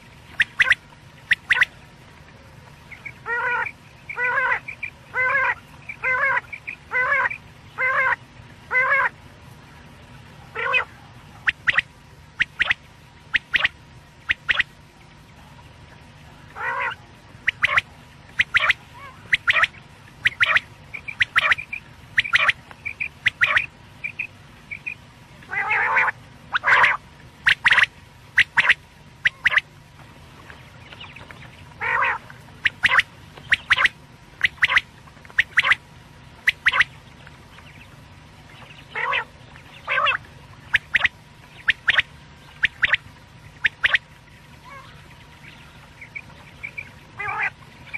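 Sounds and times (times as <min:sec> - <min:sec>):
faint steady hum: 0:00.0 - 0:47.9
quail calling: 0:00.3 - 0:01.7, 0:02.9 - 0:09.2, 0:10.4 - 0:14.7, 0:16.5 - 0:29.7, 0:30.9 - 0:35.8, 0:36.4 - 0:37.0, 0:38.6 - 0:47.9.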